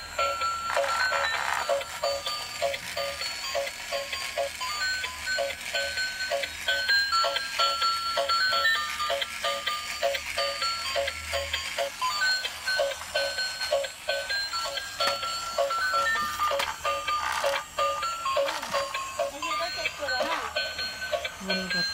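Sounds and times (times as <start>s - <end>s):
toy speaker electronic tune: 0.0s - 21.9s.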